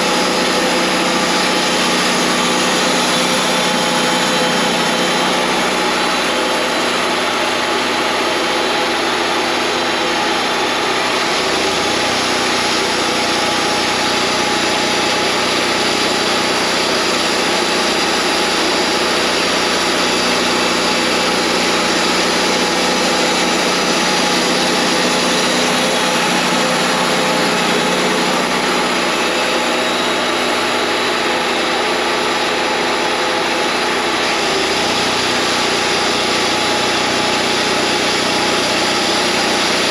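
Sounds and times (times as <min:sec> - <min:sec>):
band sawmill drone: 0:00.0 - 0:39.9.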